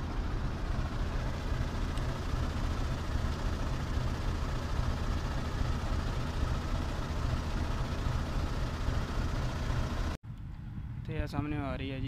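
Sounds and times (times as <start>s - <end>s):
diesel locomotive idling: 0.0s - 10.2s.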